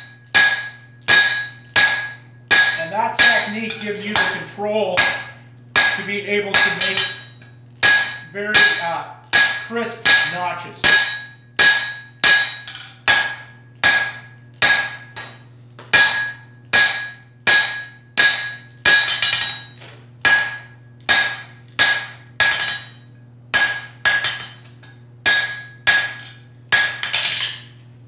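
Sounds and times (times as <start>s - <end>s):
hammer striking hot steel on anvil: 0.0s - 27.8s.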